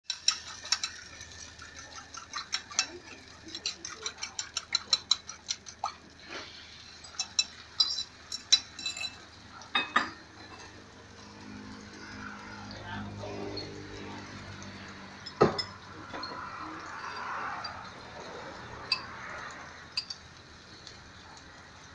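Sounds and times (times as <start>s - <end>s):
utensil clinking on bowl and pan: 0.1s - 10.9s, 11.5s - 20.9s.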